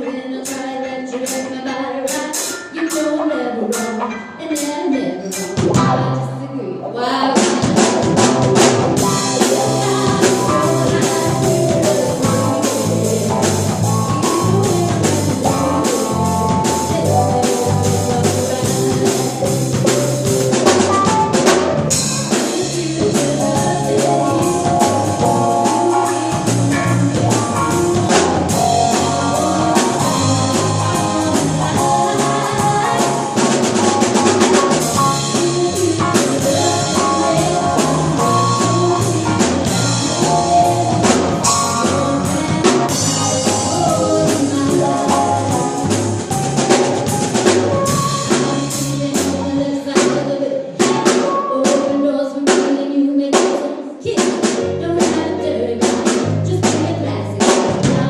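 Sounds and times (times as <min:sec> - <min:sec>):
live band playing: 0:00.0 - 0:58.0
drum kit beat: 0:02.1 - 0:06.2, 0:07.3 - 0:52.7, 0:53.4 - 0:58.0.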